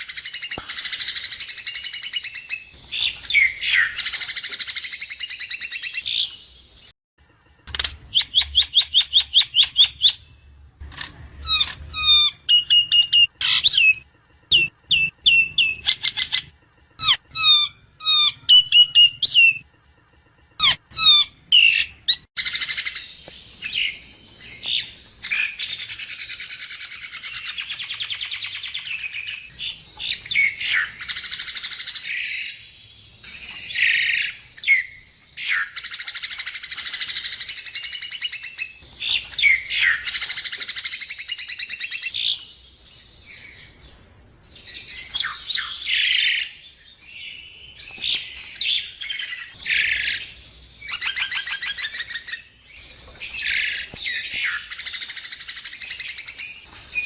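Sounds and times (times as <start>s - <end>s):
myna bird singing: 0.0s - 6.9s, 7.5s - 57.0s.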